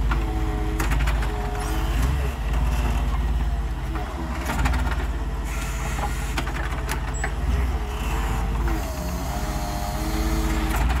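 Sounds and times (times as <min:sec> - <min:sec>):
forklift engine running: 0:00.0 - 0:11.0.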